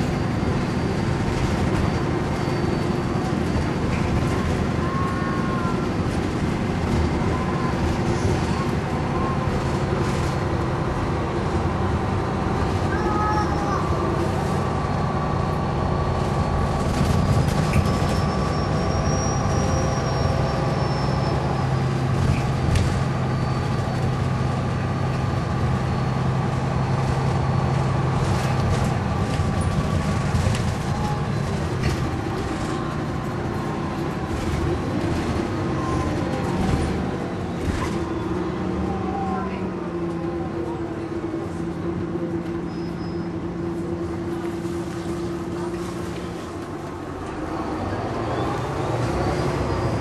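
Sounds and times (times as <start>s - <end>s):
bus engine drone: 0.0s - 50.0s.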